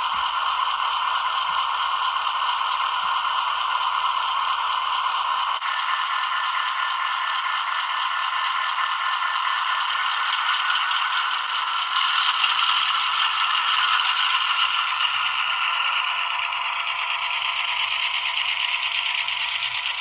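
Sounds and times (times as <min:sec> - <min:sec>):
model locomotive rattling clatter: 0:00.0 - 0:20.0.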